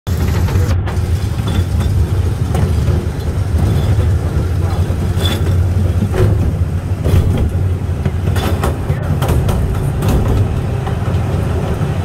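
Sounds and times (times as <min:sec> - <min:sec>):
miniature train rumbling: 0:00.1 - 0:12.0
wheels clacking on rails: 0:00.1 - 0:12.0.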